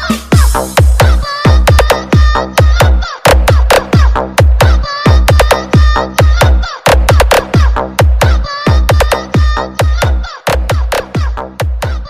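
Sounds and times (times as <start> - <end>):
electronic dance music: 0.0 - 12.0
deep kick drums: 0.2 - 12.0.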